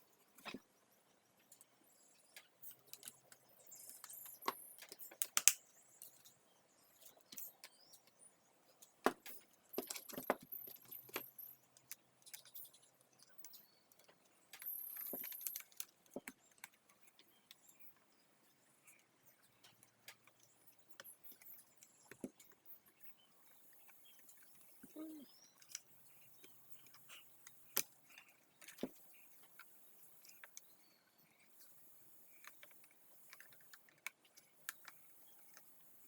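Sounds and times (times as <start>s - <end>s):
plastic parts clicking and rattling: 2.3s - 8.2s, 8.8s - 18.1s, 18.8s - 36.0s.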